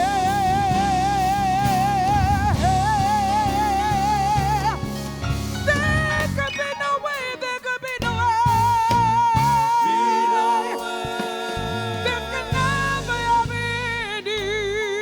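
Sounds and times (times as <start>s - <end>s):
live soul band playing: 0.0s - 15.0s.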